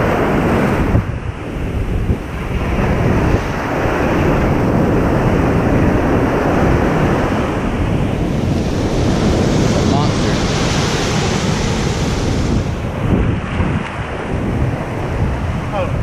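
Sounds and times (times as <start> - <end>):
small waves washing up sand: 0.0 - 16.0.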